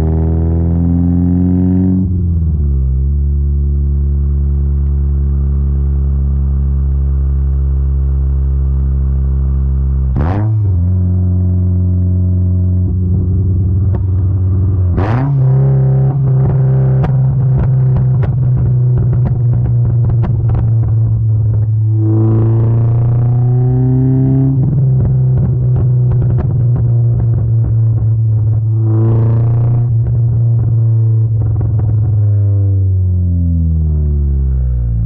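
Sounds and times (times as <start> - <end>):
car engine drone with revs: 0.0 - 35.0
exhaust crackles and pops: 2.0 - 35.0.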